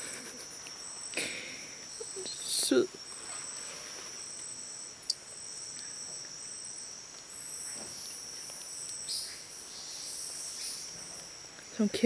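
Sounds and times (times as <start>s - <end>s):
higher insect trill: 0.0s - 12.0s
insects trilling: 0.0s - 12.0s.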